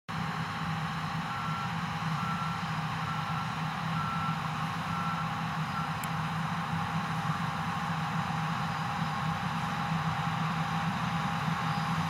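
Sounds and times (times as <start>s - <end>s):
combine harvester running: 0.1s - 12.0s.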